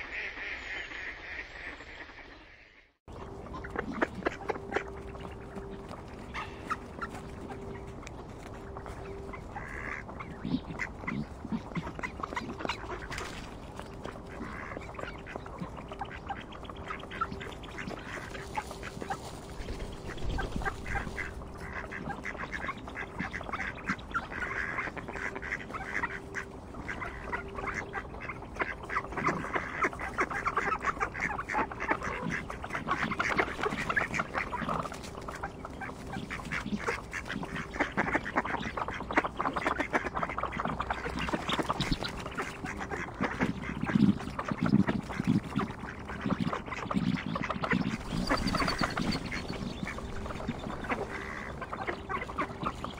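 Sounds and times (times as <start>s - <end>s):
mallards quacking: 3.1s - 52.9s.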